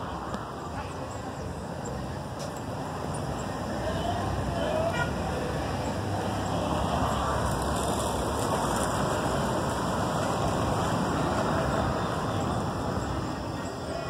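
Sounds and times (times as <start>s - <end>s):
road traffic rush: 0.0s - 14.0s.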